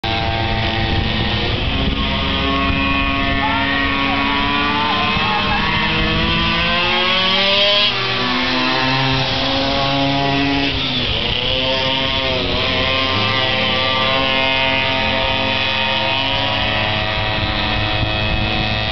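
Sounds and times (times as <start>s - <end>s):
small two-stroke engines revving: 0.0s - 18.9s.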